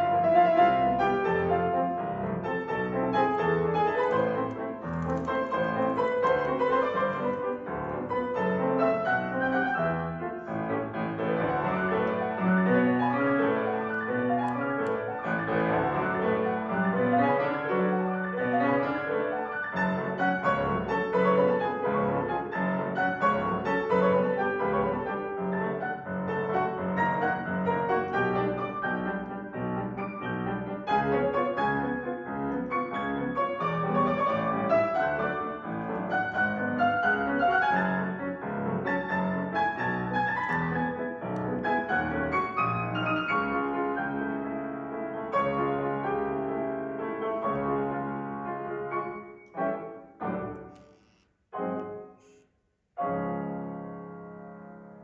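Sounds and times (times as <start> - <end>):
piano playing a waltz: 0.0 - 50.9, 51.5 - 52.3, 53.0 - 55.0.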